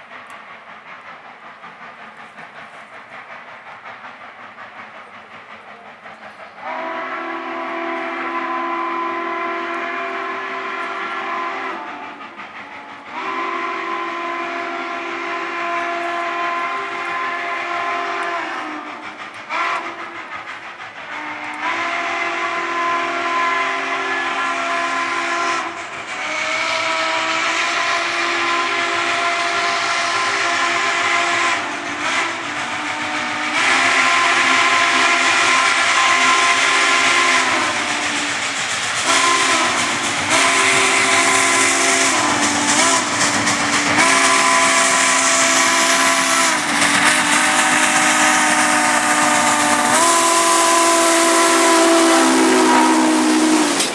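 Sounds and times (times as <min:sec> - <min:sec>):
steam hissing: 0:00.0 - 0:53.9
steam whistle blasts: 0:06.5 - 0:53.9.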